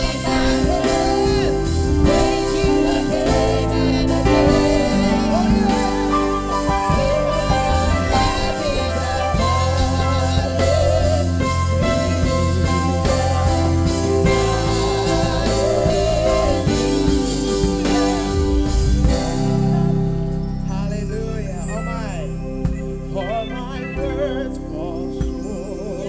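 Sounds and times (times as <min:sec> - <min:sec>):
drum kit: 0:00.0 - 0:26.0
person singing: 0:00.0 - 0:26.0
worship song with band: 0:00.0 - 0:26.0.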